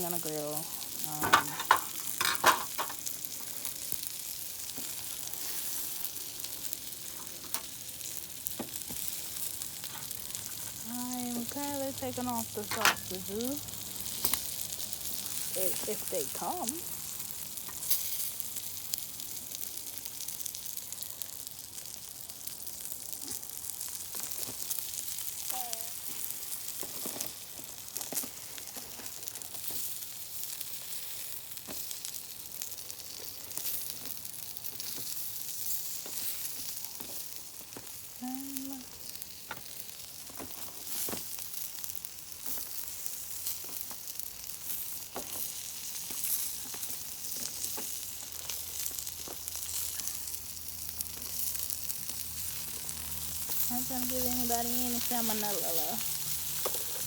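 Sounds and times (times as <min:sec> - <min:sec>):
fat crackling and popping: 0:00.0 - 0:57.0
meat sizzling on a grill: 0:00.0 - 0:57.0.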